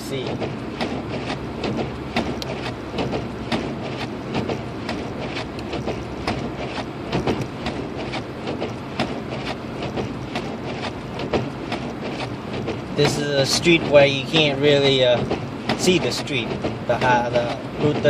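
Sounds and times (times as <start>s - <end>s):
engine and tyre hum: 0.0s - 18.0s.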